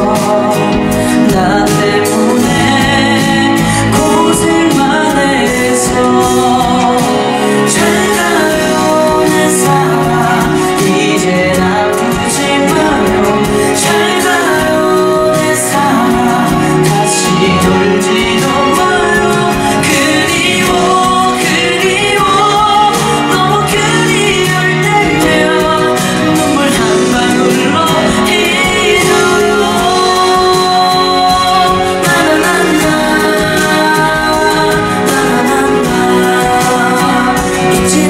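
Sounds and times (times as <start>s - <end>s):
ballad accompaniment music: 0.0s - 38.0s
man singing into microphone: 0.0s - 38.0s.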